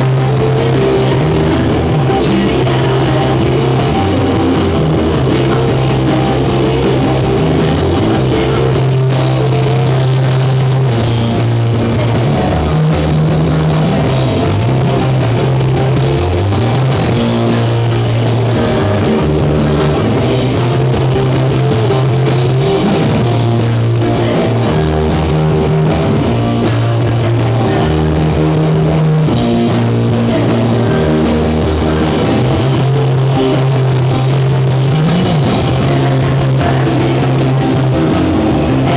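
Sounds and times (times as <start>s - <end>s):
heavy bass notes: 0.0s - 38.9s
live rock band playing: 0.0s - 38.9s.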